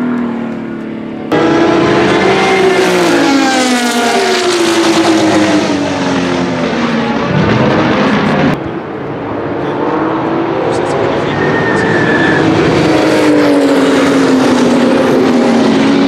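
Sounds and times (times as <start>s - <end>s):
another racing car: 0.0s - 16.0s
race car engine passing: 0.0s - 16.0s.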